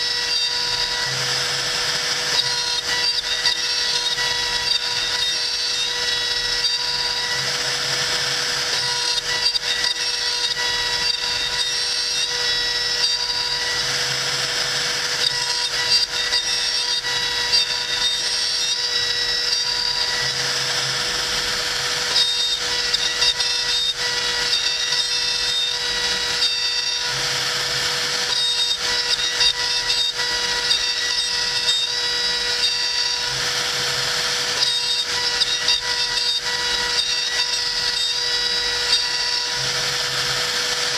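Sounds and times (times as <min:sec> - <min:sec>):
router bit cutting wood: 0:00.0 - 0:40.9
router spindle whining: 0:00.0 - 0:40.9.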